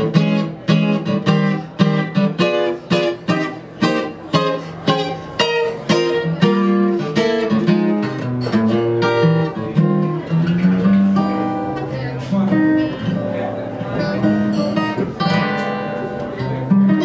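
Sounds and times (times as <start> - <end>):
acoustic guitar playing jazz: 0.0 - 17.0.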